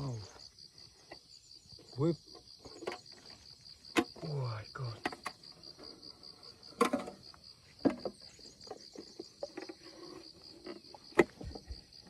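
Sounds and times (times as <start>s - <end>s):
insect pulsed chirping: 0.0s - 12.0s.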